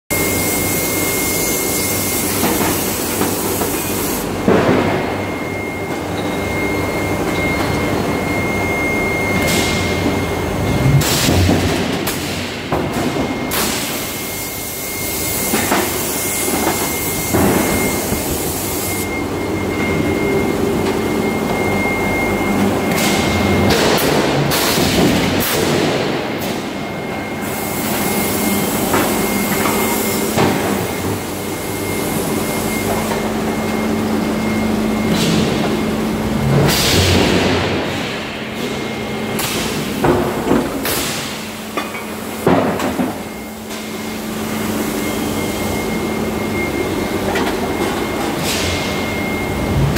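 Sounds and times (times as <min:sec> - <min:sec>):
machinery hum and whine: 0:00.1 - 0:49.9.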